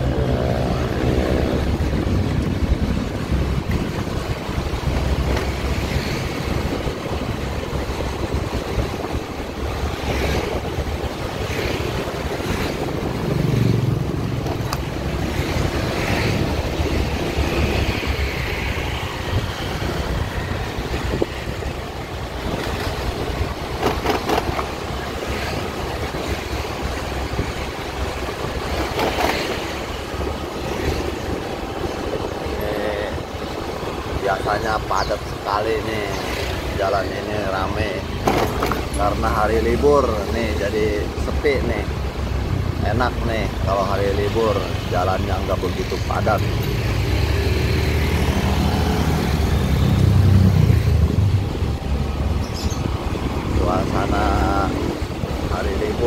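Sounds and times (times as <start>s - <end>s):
passing traffic: 0.0s - 56.0s
vehicle engine rumble: 0.0s - 56.0s
wind noise on microphone: 0.0s - 56.0s.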